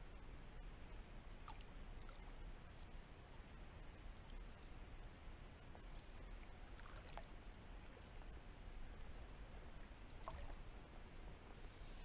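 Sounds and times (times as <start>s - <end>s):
steady high hiss: 0.0s - 12.0s
water lapping and rippling: 0.7s - 12.0s.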